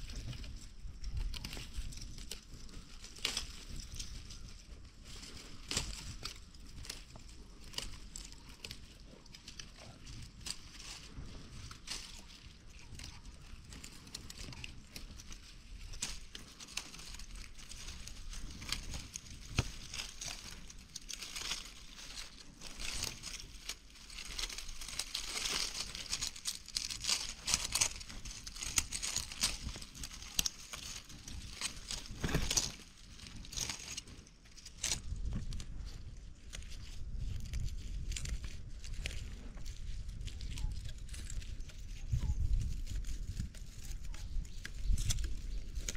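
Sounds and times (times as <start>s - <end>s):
dry leaves and twigs crackling: 0.0s - 45.9s.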